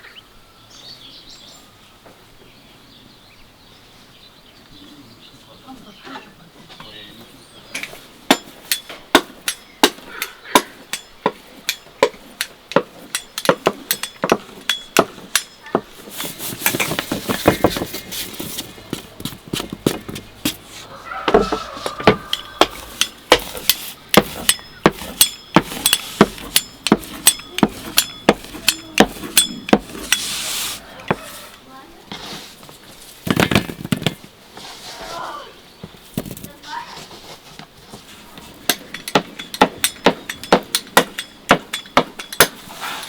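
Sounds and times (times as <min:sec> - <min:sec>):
rustling and scraping: 0:06.1 - 0:43.0.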